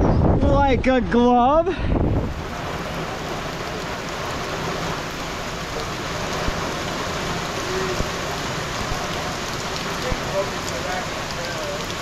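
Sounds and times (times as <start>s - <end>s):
steady rain hiss: 1.0s - 12.0s.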